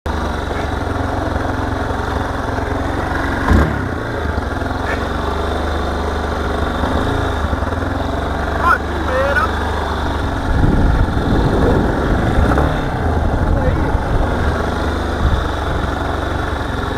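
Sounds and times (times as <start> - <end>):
motorcycle engine idling: 0.1 - 16.9.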